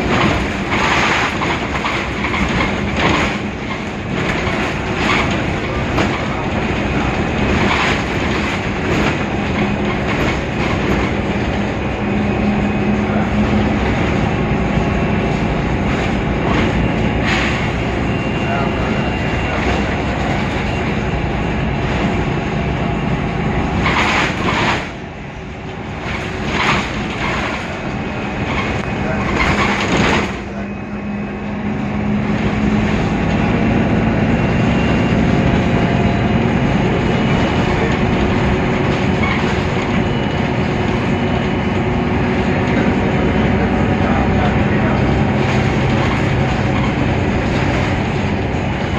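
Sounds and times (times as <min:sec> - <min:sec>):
bus diesel engine rumble: 0:00.0 - 0:48.9.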